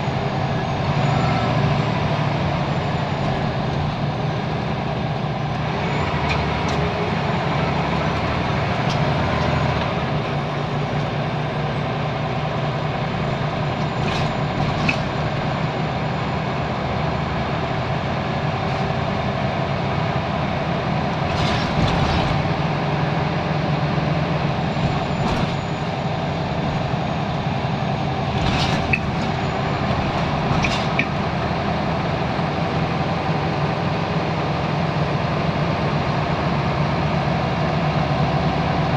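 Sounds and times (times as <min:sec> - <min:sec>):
bus diesel engine drone: 0:00.0 - 0:38.9.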